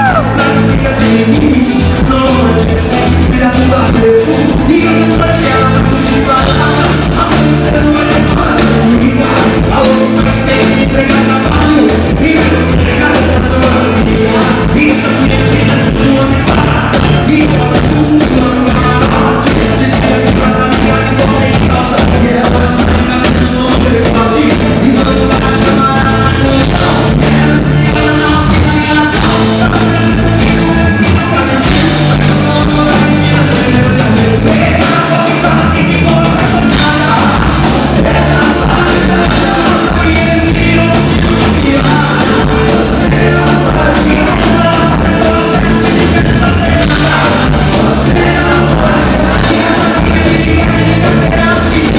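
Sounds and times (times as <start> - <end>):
live band playing dance music: 0.0 - 51.9
person singing: 0.0 - 51.9.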